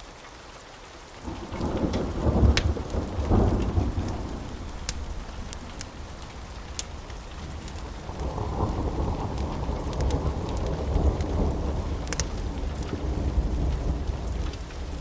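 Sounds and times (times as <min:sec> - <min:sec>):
steady rain: 0:00.0 - 0:15.0
thunder rumbling: 0:01.2 - 0:15.0
wood fire crackling and popping: 0:01.2 - 0:15.0.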